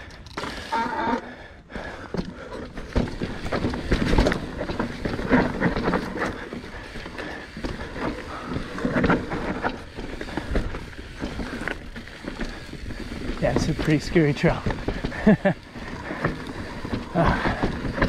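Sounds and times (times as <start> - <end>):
bike knocking and rattling: 0.0 - 18.0
tyres crunching on dirt and rock: 2.0 - 18.0.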